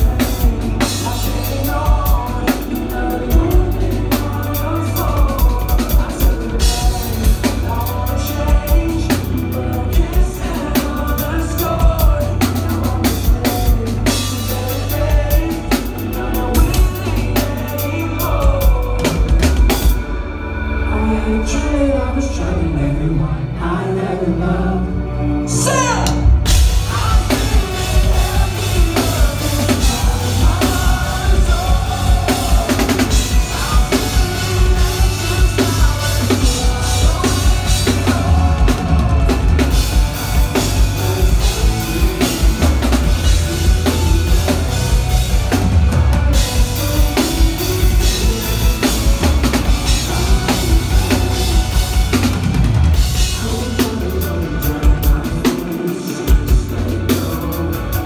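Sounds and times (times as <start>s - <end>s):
drum kit and bass drum: 0.0s - 20.1s, 25.7s - 58.0s
rock band playing live: 0.0s - 58.0s.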